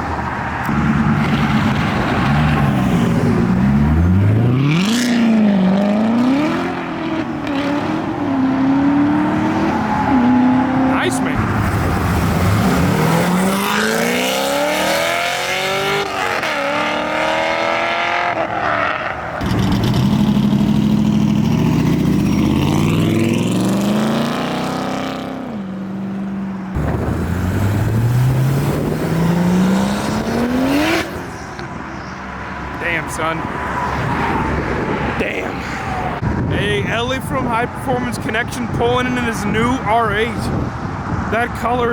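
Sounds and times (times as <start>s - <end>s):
car engines accelerating hard: 0.0s - 41.9s.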